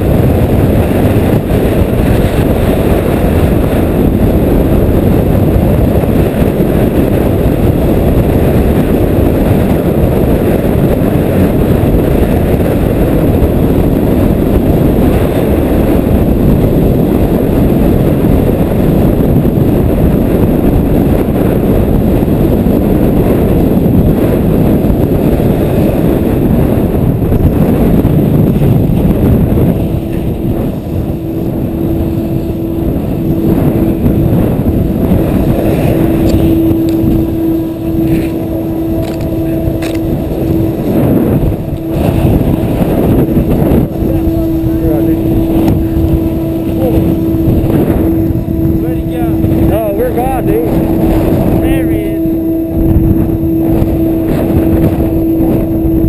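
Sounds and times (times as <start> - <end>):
faint steady hum: 0.0 - 56.0
wind buffeting microphone: 0.0 - 56.0.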